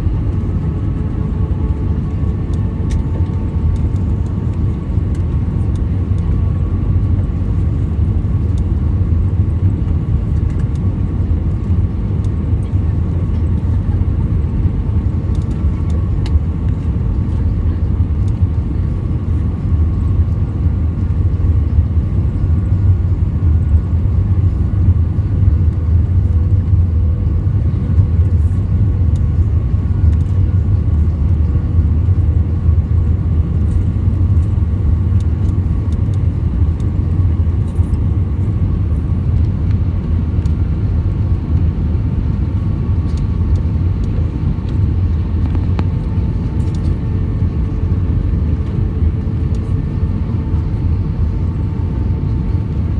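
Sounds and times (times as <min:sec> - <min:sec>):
aircraft cabin rumble: 0:00.0 - 0:52.9.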